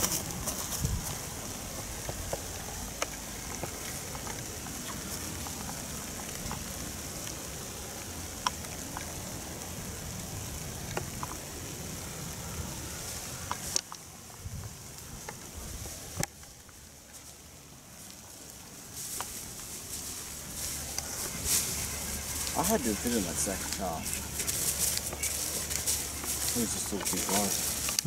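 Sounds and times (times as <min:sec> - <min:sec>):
rain hissing on leaves: 0:00.0 - 0:28.0.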